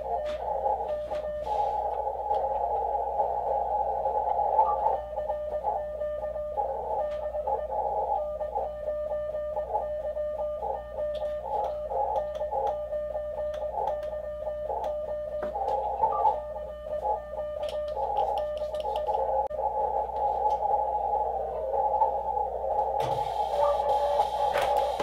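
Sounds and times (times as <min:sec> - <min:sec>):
morse code tone: 0:00.0 - 0:25.0
overlapping radio signals: 0:00.0 - 0:25.0
radio band noise: 0:00.0 - 0:25.0.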